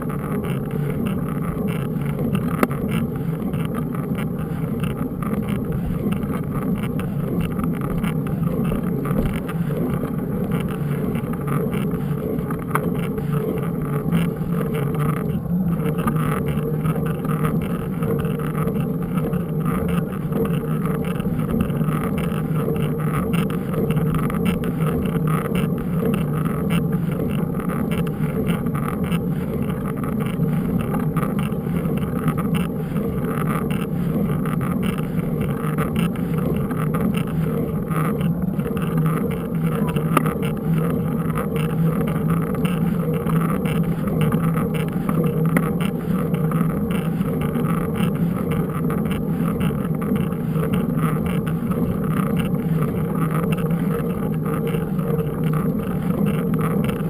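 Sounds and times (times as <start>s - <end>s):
mountain bike riding rumble: 0.0s - 57.0s.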